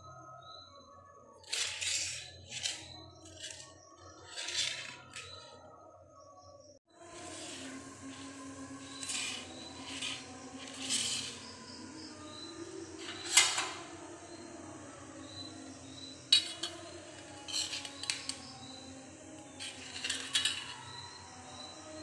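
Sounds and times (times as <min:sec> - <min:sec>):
metal spoon scraping a metal plate: 0:01.4 - 0:05.6, 0:07.0 - 0:14.5, 0:15.2 - 0:21.8.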